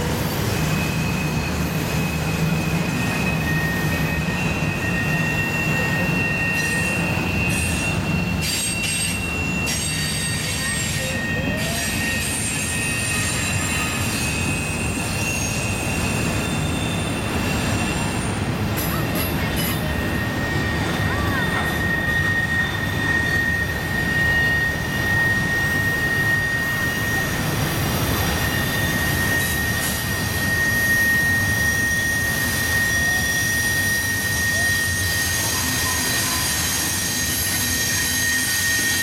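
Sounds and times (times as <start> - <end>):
lower wheel squeal: 0.0 - 39.0
rumble of passing freight cars: 0.0 - 39.0
train wheels squealing on rail: 0.0 - 39.0.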